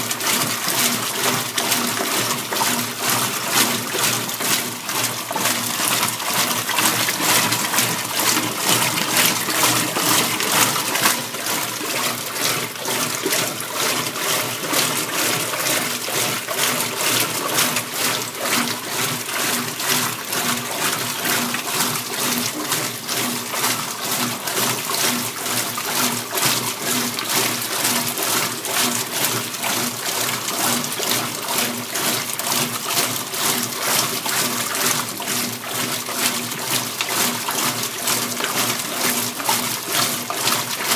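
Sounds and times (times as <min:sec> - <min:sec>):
water rushing in washing machine: 0:00.0 - 0:40.9.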